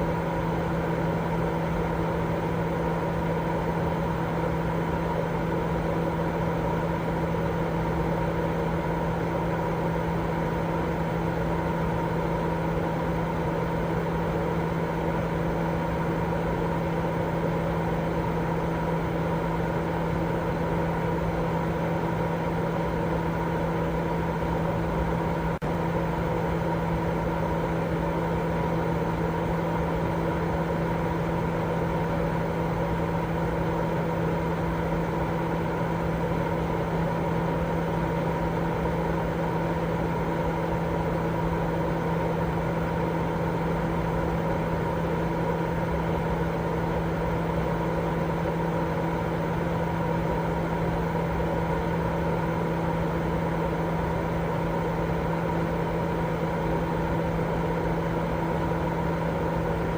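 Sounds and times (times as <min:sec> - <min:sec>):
white noise with motor hum: 0:00.0 - 0:59.9.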